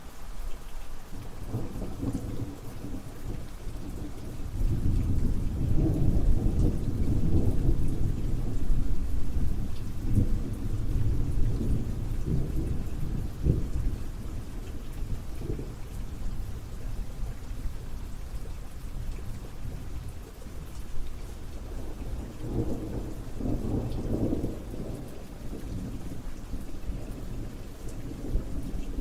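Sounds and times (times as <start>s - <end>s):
steady rain: 0.0s - 29.0s
rolling thunder: 1.4s - 17.4s, 21.8s - 29.0s.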